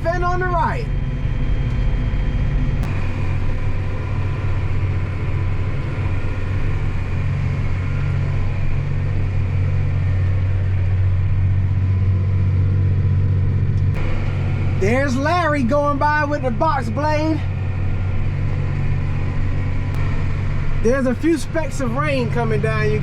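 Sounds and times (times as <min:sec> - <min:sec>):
vehicle engine and road drone: 0:00.0 - 0:23.0.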